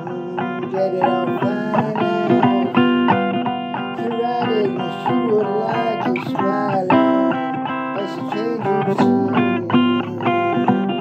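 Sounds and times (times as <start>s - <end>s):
blues guitar with bent notes: 0.0s - 11.0s.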